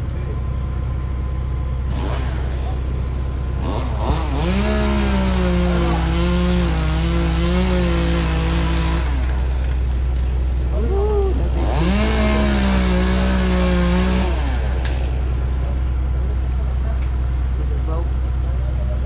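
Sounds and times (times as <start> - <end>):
low engine drone: 0.0 - 19.0
chainsaw revving: 1.9 - 17.2.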